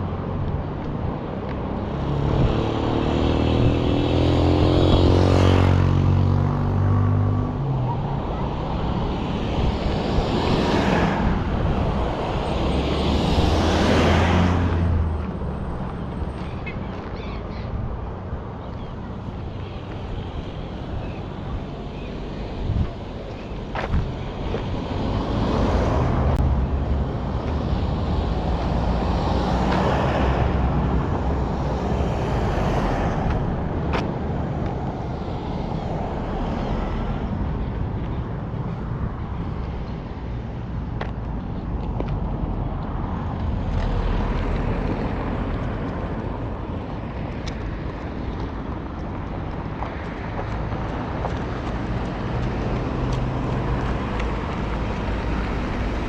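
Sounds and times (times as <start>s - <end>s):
cars passing: 0.0s - 56.0s
traffic rumble: 0.0s - 56.0s.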